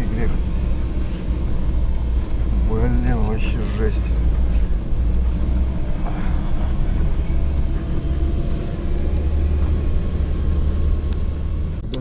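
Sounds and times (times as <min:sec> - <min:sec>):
van engine rumbling: 0:00.0 - 0:12.0.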